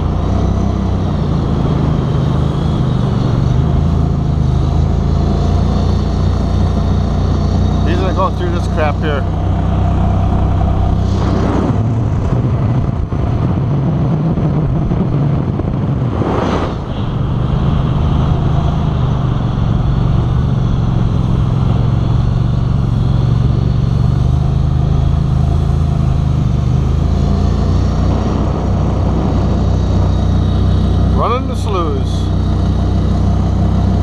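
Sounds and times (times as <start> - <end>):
boat motor running: 0.0 - 34.0.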